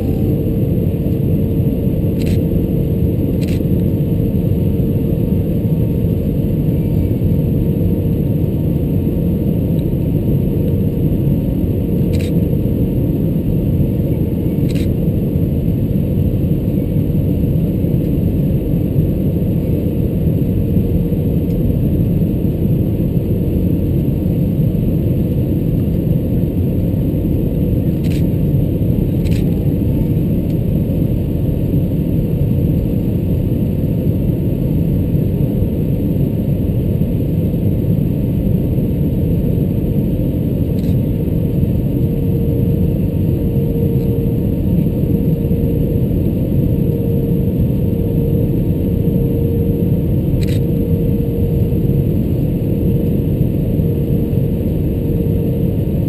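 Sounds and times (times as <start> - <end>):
aircraft cabin roar: 0.0 - 56.0
faint steady hum: 0.0 - 56.0.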